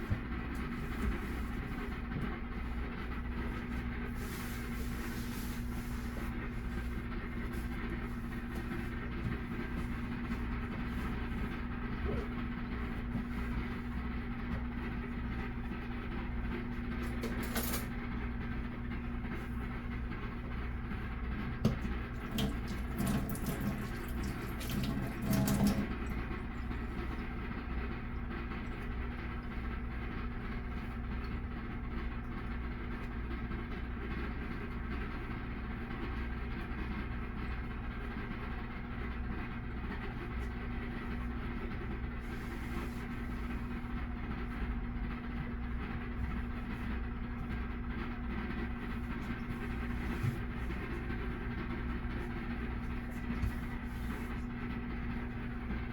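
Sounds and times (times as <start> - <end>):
microwave oven humming: 0.0 - 55.9.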